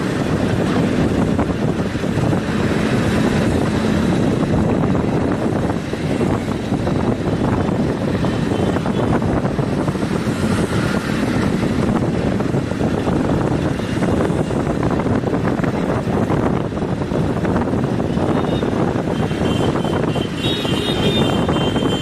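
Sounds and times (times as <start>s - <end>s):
motorbike engine and road noise: 0.0s - 22.0s
wind on microphone: 0.0s - 22.0s.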